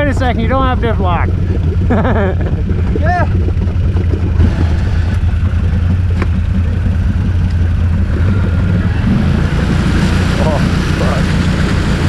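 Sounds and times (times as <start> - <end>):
atv engine idling: 0.0 - 12.0.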